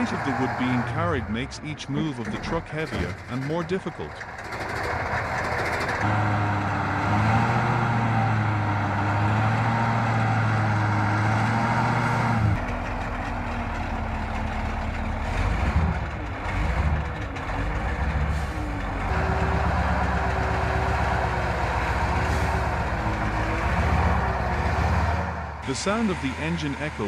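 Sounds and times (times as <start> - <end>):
heavy truck engine working hard: 0.0 - 27.0.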